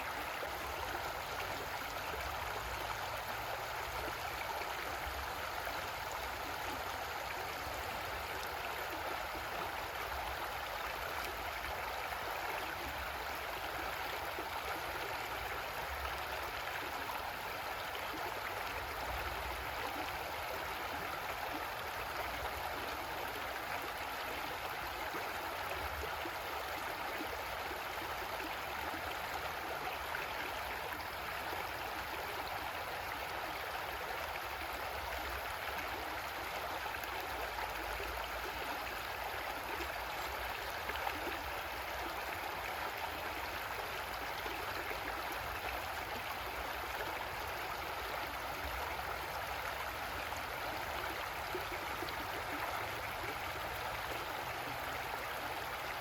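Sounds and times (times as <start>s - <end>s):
creek water flowing over rocks: 0.0s - 56.0s.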